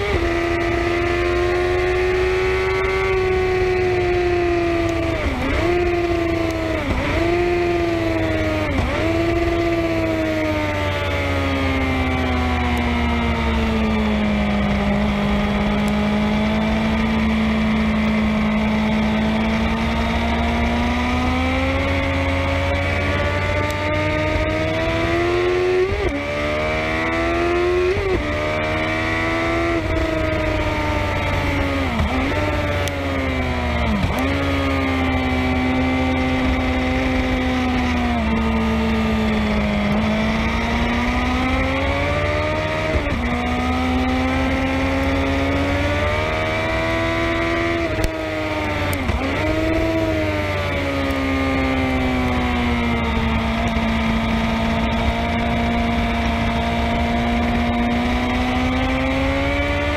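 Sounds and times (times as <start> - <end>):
racing motorcycle engine: 0.0 - 59.9.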